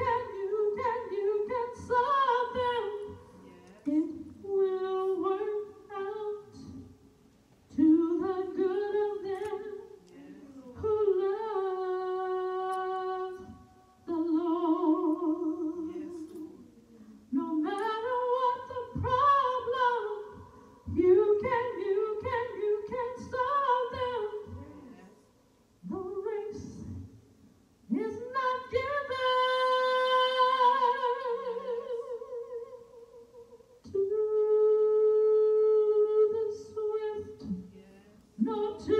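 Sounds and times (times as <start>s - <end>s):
woman singing unaccompanied: 0.0s - 7.0s, 7.7s - 27.2s, 27.8s - 38.9s.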